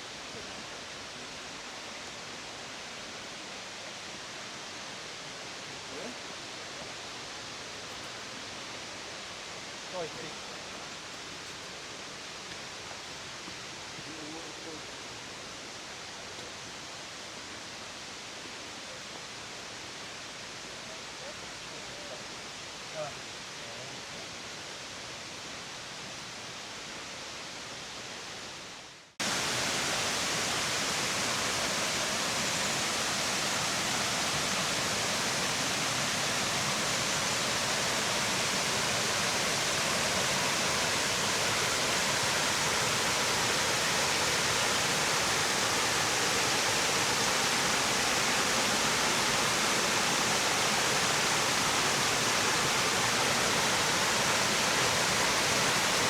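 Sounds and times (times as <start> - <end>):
waterfall rushing: 0.0 - 23.6, 29.2 - 56.0.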